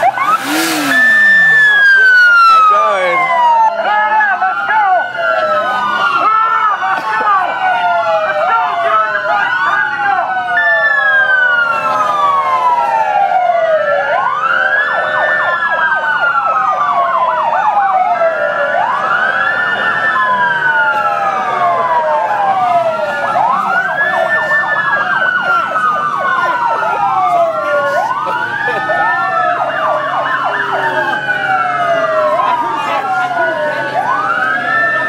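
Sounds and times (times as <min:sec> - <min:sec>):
police motorcycle sirens wailing: 0:00.0 - 0:35.0.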